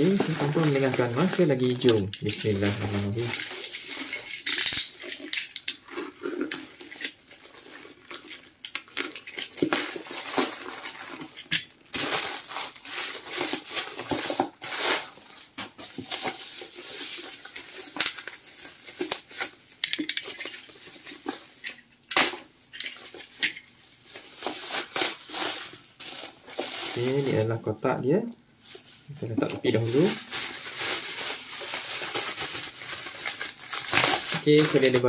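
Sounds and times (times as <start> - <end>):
packaging rustling and tearing: 0.0 - 27.6, 28.2 - 35.0.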